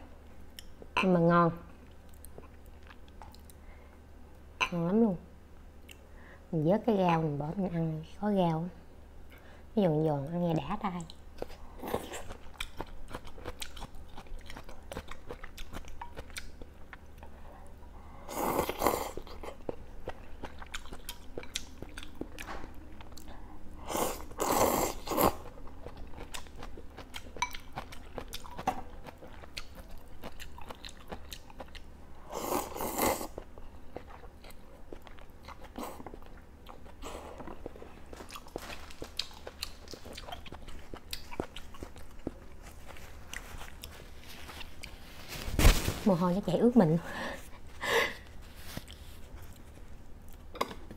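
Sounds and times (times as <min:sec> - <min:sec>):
chewing and crunching greens: 0:01.6 - 0:03.7, 0:10.3 - 0:46.4, 0:47.5 - 0:50.9.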